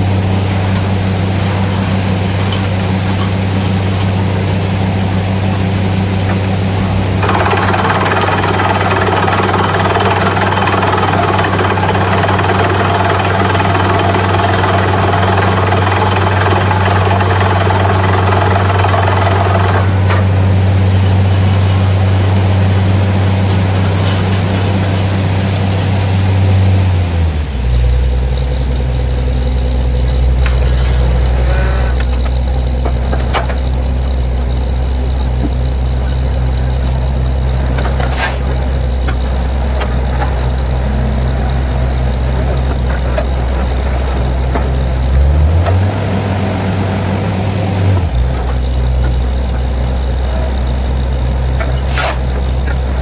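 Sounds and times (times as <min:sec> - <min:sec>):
drilling rig engine running: 0:00.0 - 0:53.0.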